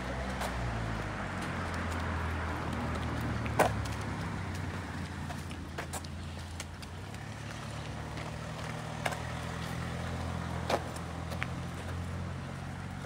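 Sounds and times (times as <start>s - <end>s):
low hum of motor traffic: 0.0s - 13.0s.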